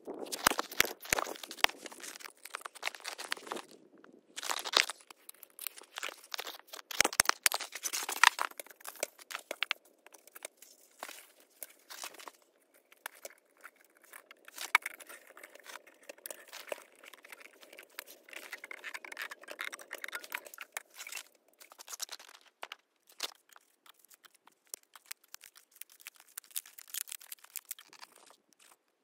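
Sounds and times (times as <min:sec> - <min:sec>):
crinkling: 0:00.0 - 0:29.0.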